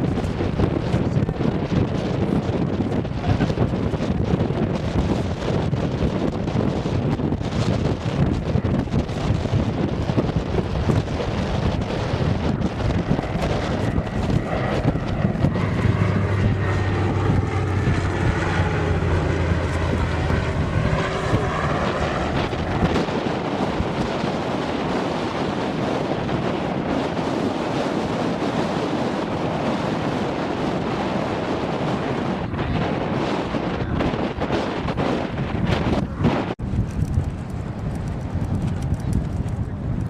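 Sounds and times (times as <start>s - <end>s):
aircraft engine flying past: 0.0s - 40.0s
wind buffeting microphone: 0.0s - 40.0s.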